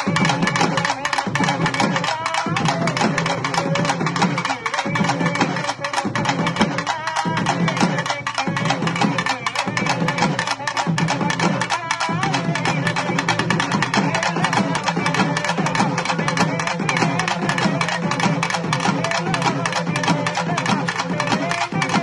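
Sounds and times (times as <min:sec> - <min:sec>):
fast dense drumming: 0:00.0 - 0:22.0.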